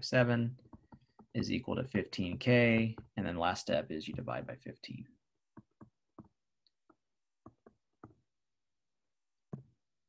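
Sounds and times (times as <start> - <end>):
stylus tapping on tablet screen: 0.5 - 8.4, 9.4 - 9.8.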